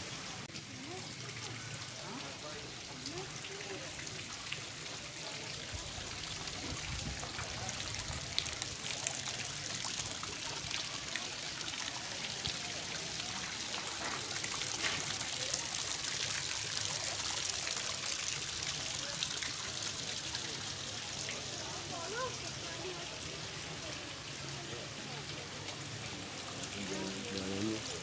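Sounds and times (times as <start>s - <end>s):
fountain water trickling and splashing: 0.0s - 28.0s.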